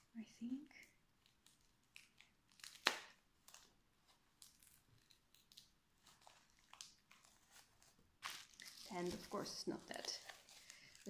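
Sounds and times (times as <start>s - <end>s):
bubble wrap crinkling: 0.4s - 11.0s.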